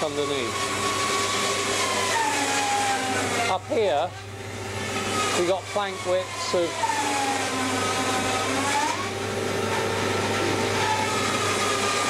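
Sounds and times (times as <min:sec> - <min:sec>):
machine whirring: 0:00.0 - 0:12.0.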